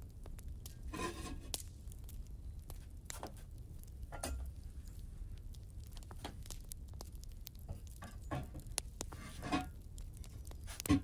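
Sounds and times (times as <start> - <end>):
small objects clicking and tapping: 0.4 - 5.0, 5.9 - 11.0.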